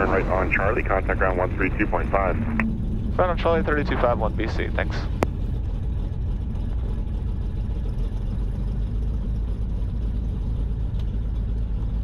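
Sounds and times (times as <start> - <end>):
low drone of piston engines: 0.0 - 12.0.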